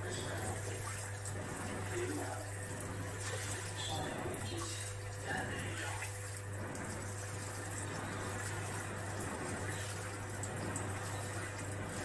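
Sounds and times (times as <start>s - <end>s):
washing machine running: 0.0s - 12.0s.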